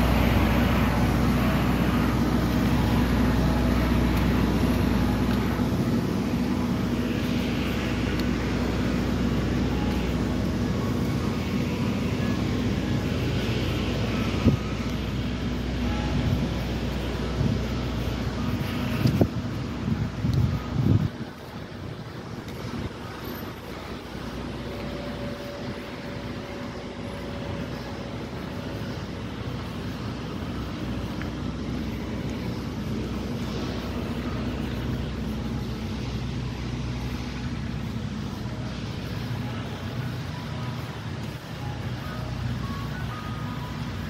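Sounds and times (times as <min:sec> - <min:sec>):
street traffic: 0:00.0 - 0:44.0
vehicle engine humming: 0:00.0 - 0:44.0.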